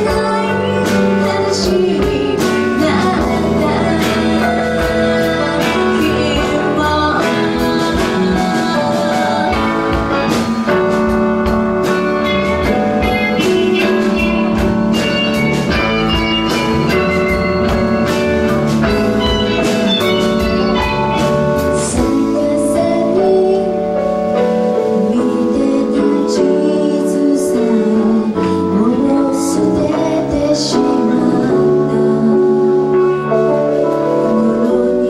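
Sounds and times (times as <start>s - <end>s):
woman singing: 0.0s - 18.2s, 18.8s - 35.0s
live band playing pop song: 0.0s - 35.0s.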